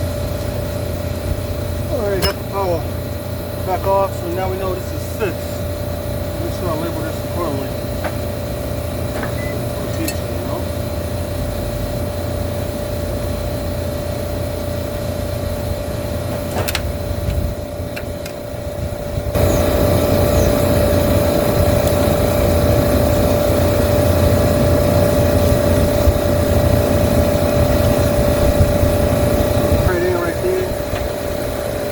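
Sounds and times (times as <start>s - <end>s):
machinery humming: 0.0s - 31.9s.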